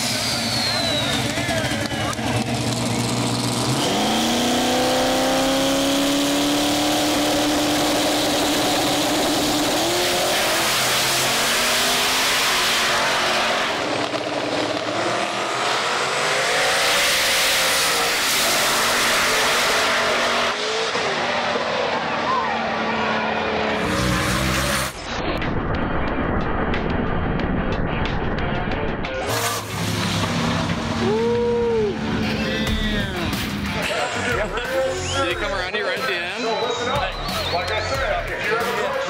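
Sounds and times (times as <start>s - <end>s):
drag racing engines accelerating: 0.0s - 39.0s.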